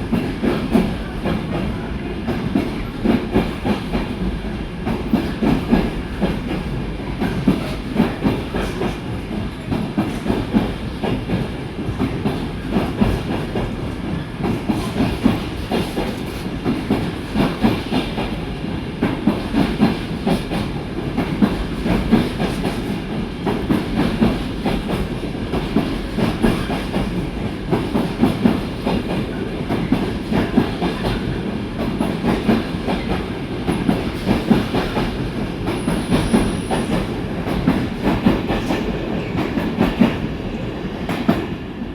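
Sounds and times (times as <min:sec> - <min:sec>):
train rumbling past: 0:00.0 - 0:41.9.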